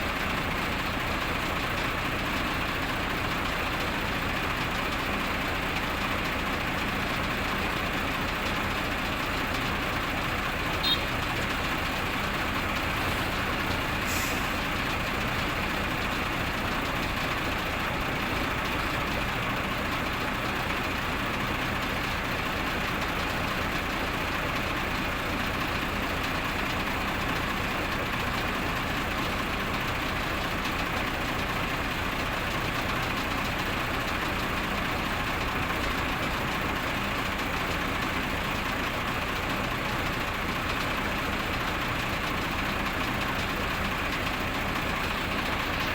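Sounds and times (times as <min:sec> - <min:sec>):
heavy engine running: 0:00.0 - 0:45.9.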